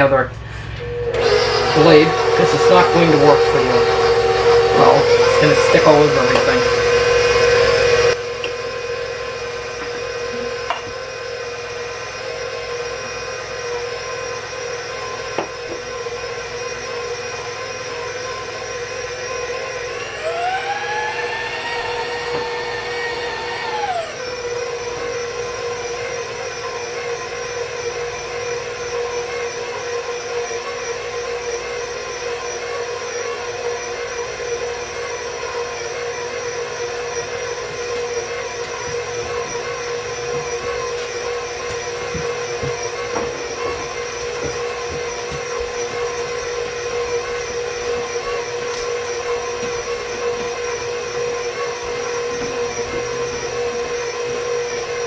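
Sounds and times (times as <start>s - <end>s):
high whining tone: 0.0s - 55.0s
stand mixer kneading dough: 0.0s - 55.0s.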